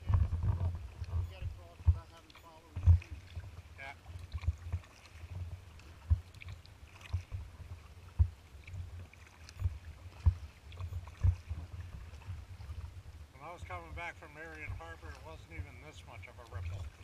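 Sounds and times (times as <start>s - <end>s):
low steady rumble: 0.0s - 17.0s
paddle knocks and splashes: 0.0s - 17.0s.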